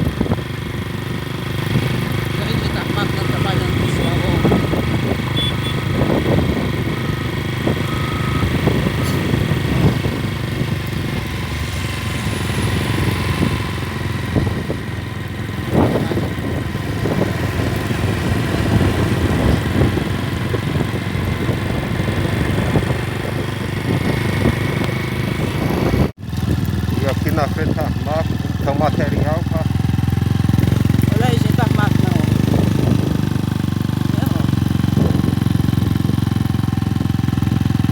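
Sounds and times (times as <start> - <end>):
engine droning: 0.0 - 37.9.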